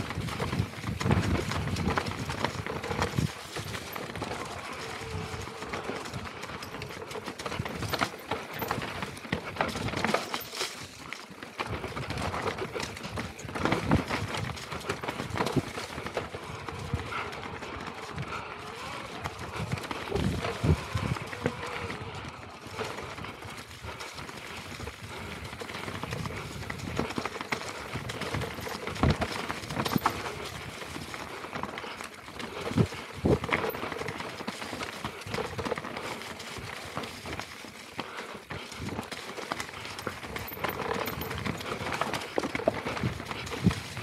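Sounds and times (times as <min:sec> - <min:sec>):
bike rattling: 0:00.0 - 0:44.0.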